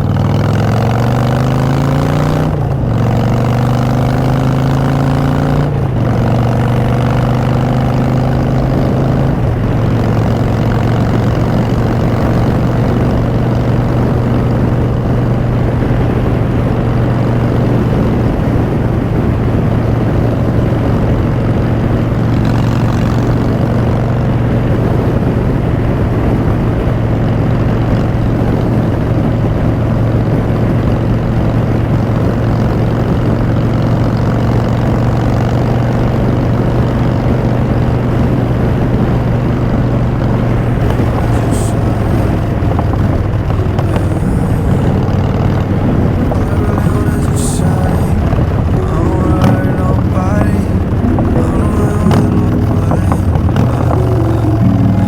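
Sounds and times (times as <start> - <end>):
motorcycle engine running: 0.0 - 25.2, 26.9 - 55.0.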